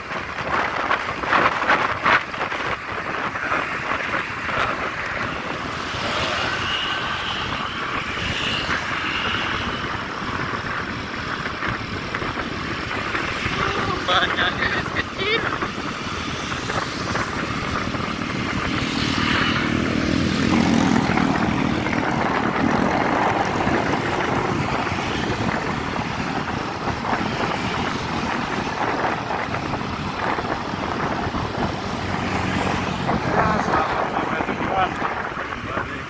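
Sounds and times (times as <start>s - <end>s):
wind and road noise: 0.0s - 36.0s
motorcycle engines humming: 3.1s - 36.0s.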